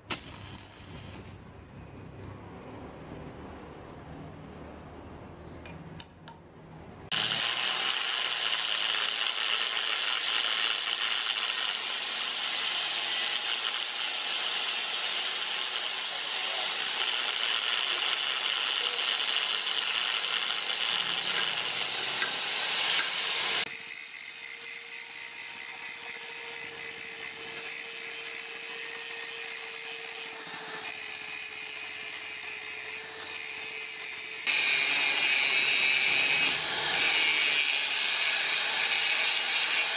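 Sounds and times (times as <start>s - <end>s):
power tool rasping on steel: 7.1s - 39.9s.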